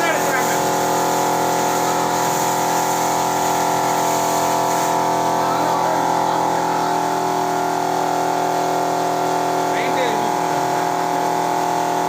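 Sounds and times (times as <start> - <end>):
machine droning: 0.0 - 12.0.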